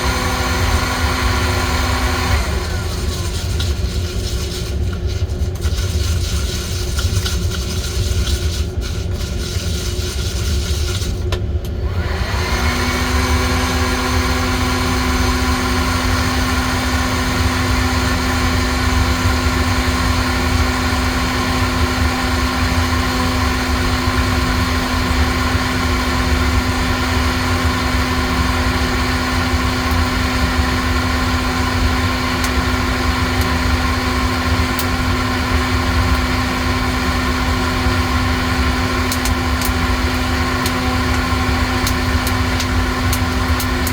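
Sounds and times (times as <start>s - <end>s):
electric motor spinning: 0.0s - 43.9s.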